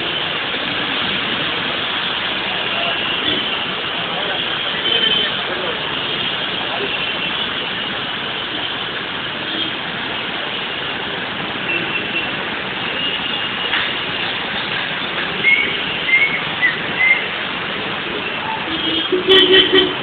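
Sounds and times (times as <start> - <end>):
road traffic on wet street: 0.0 - 20.0.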